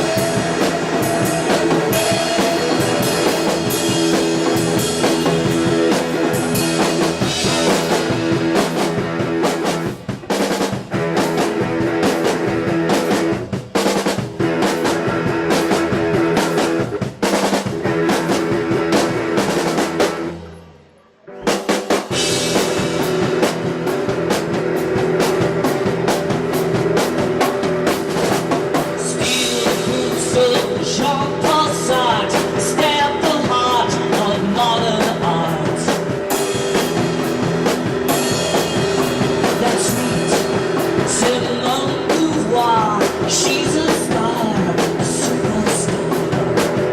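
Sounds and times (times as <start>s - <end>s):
drum kit: 0.0s - 46.9s
guitar: 0.0s - 46.9s
rock band playing: 0.0s - 46.9s.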